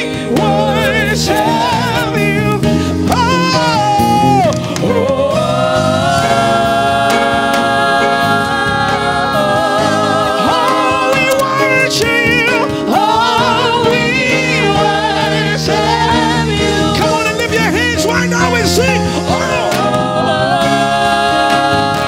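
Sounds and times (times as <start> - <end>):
gospel singing with vibrato: 0.0 - 22.0
instrumental accompaniment: 0.0 - 22.0.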